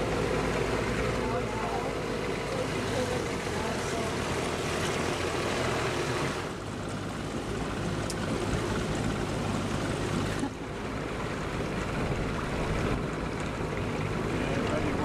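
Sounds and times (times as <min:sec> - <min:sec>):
boat motor running: 0:00.0 - 0:15.0
water noise: 0:00.0 - 0:15.0.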